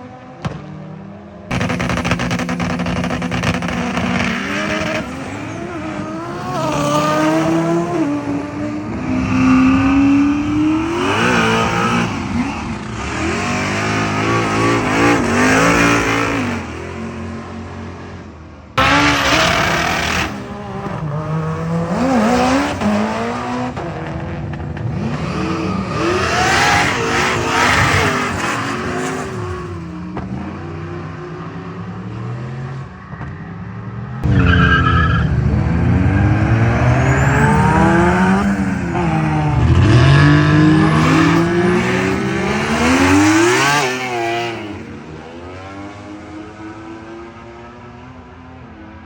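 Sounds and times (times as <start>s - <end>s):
car engines accelerating hard: 0.0s - 49.0s.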